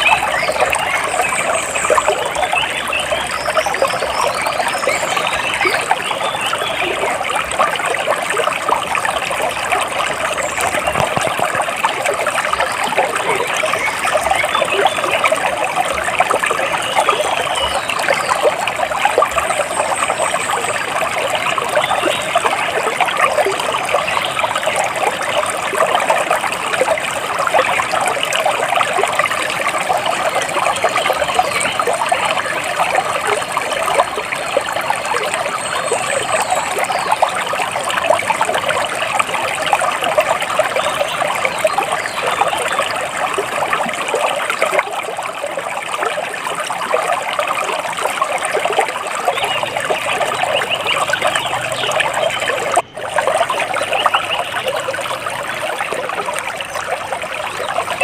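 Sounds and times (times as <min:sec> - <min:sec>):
water splashing and trickling: 0:00.0 - 0:58.0.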